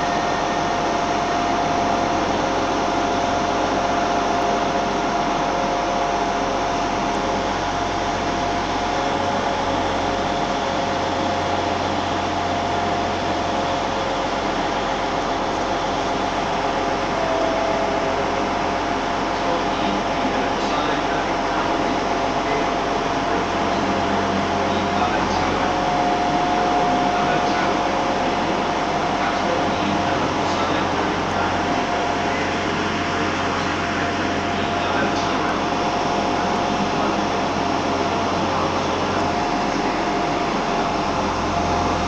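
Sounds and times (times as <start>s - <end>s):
constant whine: 0.0s - 42.0s
train engine drone: 0.0s - 42.0s.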